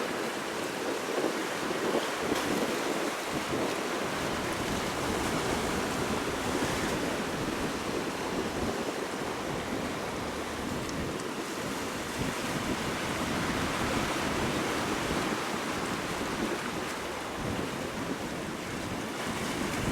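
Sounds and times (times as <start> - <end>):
wind buffeting microphone: 0.2 - 19.9.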